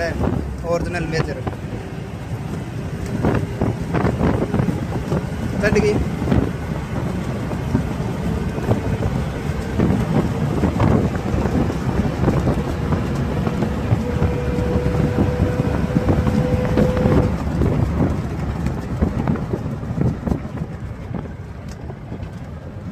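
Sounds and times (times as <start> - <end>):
jeep engine and road noise: 0.0 - 22.9
wind buffeting microphone: 0.0 - 22.9.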